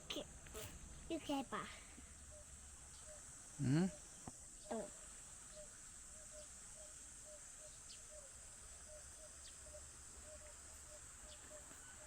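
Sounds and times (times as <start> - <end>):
faint insects buzzing: 0.0 - 12.0.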